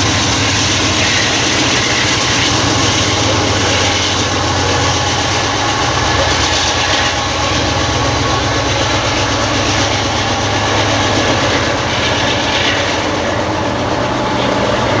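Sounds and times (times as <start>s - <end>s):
diesel locomotives droning: 0.0s - 15.0s
rail noise: 0.0s - 15.0s.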